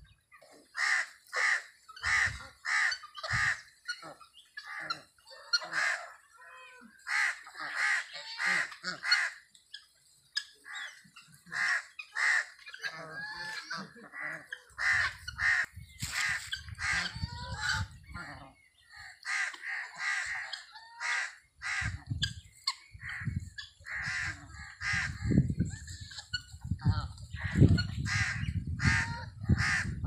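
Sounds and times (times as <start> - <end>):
poultry squawking: 0.3 - 30.0.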